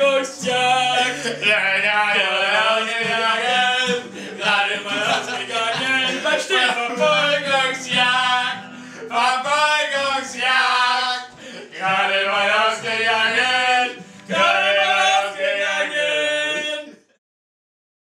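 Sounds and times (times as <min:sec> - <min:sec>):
men chanting together: 0:00.0 - 0:17.0
acoustic guitar: 0:00.0 - 0:17.1.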